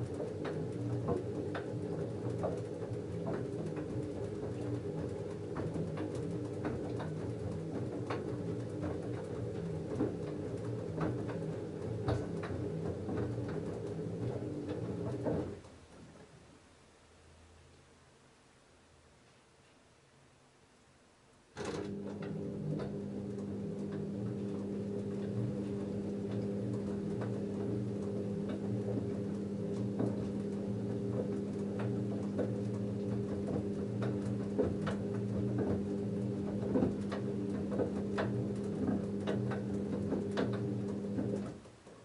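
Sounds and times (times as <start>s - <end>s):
washing machine motor humming: 0.0s - 15.7s, 21.6s - 42.0s.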